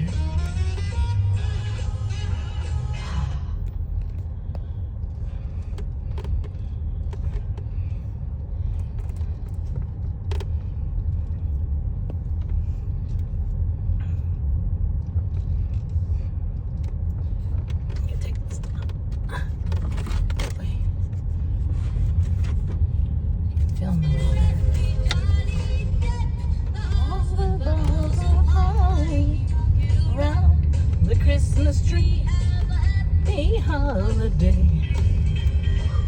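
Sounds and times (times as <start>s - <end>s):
car engine and tyres rumbling: 0.0s - 36.0s
song on car radio: 0.0s - 36.0s.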